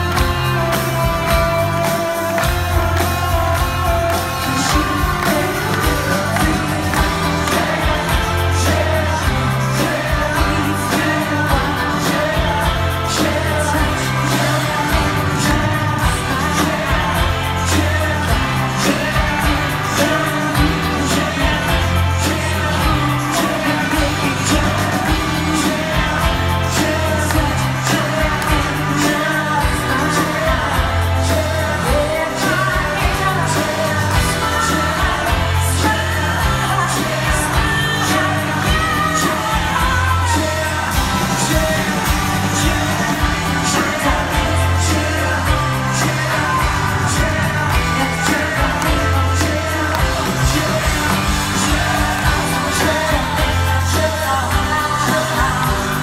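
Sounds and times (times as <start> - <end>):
live pop rock band: 0.0 - 56.0
woman singing: 0.0 - 56.0.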